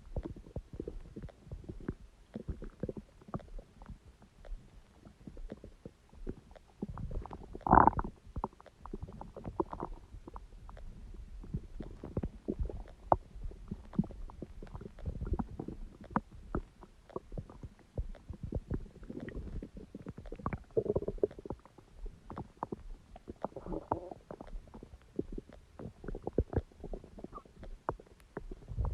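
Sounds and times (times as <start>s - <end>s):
stomach gurgling and rumbling: 0.0s - 28.9s.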